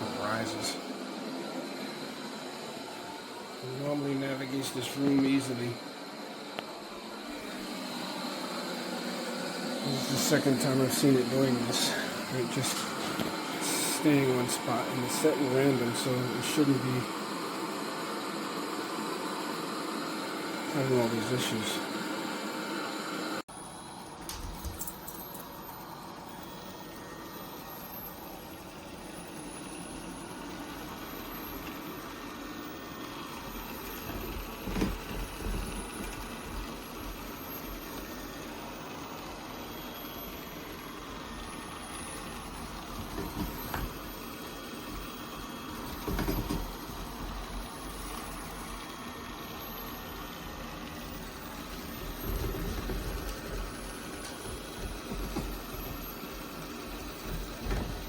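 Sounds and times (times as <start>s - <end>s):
robot vacuum whirring: 0.0s - 23.0s, 23.6s - 58.0s.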